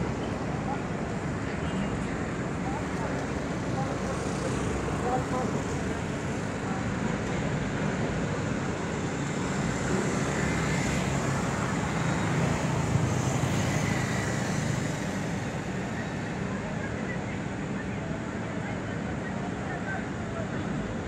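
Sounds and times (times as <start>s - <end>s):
heavy diesel engines: 0.0s - 21.0s
road traffic rumble: 0.0s - 21.0s.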